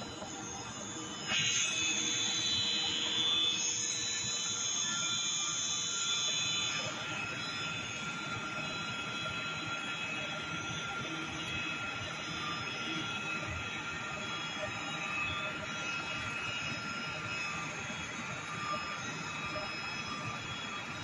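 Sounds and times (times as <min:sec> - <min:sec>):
cutting machine whining: 0:00.0 - 0:21.0.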